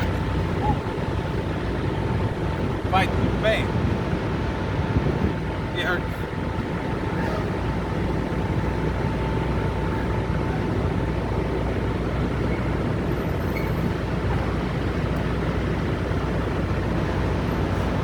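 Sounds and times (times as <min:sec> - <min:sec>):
truck engines idling: 0:00.0 - 0:18.0.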